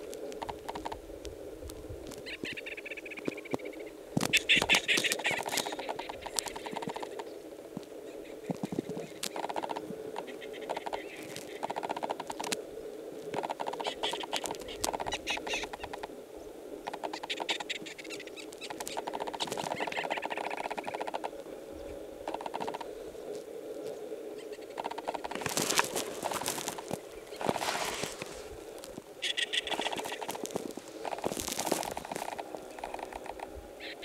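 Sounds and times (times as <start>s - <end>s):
dry grass crackling and rustling: 0.0s - 16.2s, 16.8s - 34.0s.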